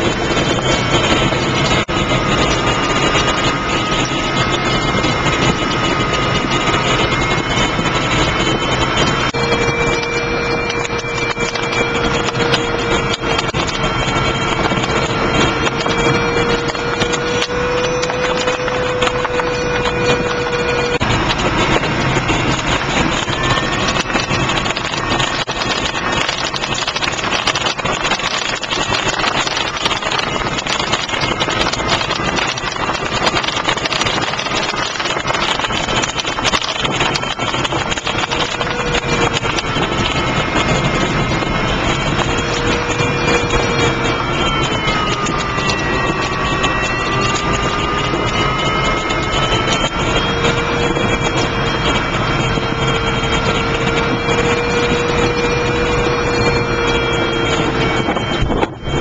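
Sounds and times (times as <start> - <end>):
air rushing past cockpit canopy: 0.0 - 59.0.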